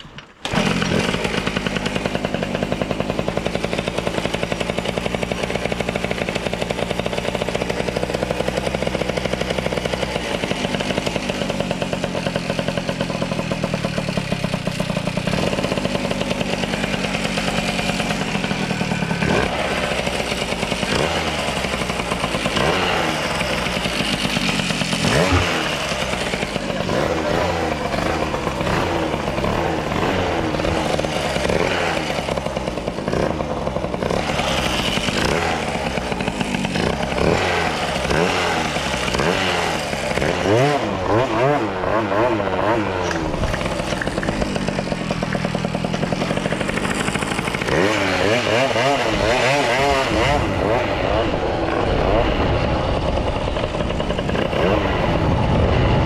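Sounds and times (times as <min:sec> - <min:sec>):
moped engine revving high: 0:00.0 - 0:56.0.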